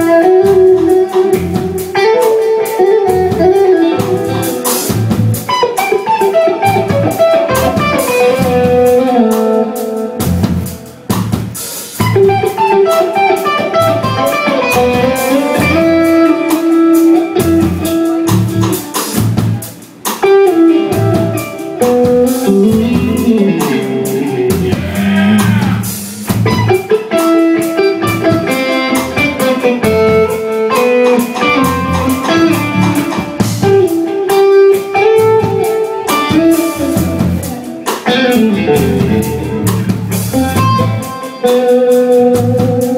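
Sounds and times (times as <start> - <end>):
bass guitar: 0.0 - 42.9
drum kit: 0.0 - 42.9
electric guitar lead line: 0.0 - 42.9.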